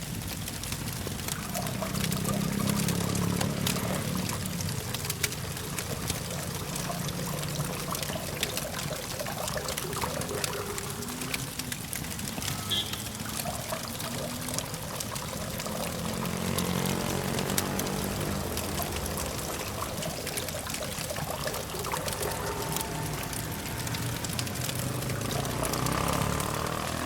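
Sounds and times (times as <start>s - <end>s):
campfire crackling and popping: 0.0s - 27.0s
distant traffic hum: 0.0s - 27.0s.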